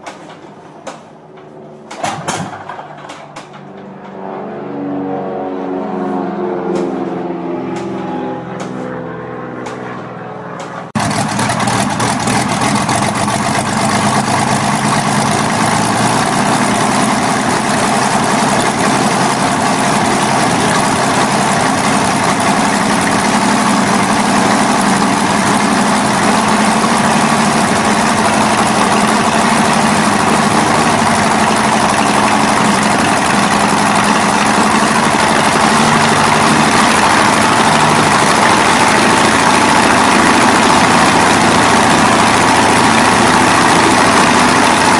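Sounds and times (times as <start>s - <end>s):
aero engine running: 0.0s - 44.9s.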